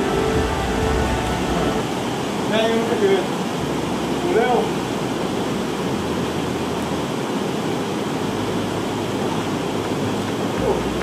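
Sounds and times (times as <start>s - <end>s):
sea surf breaking on shore: 0.0s - 11.0s.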